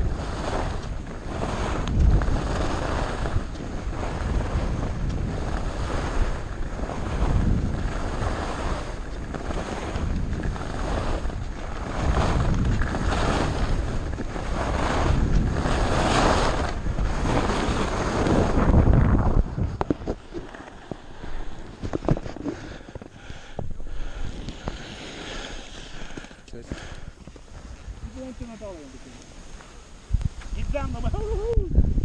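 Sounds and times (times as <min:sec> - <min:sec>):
skis carving on snow: 0:00.0 - 0:31.6
wind buffeting microphone: 0:00.0 - 0:32.0.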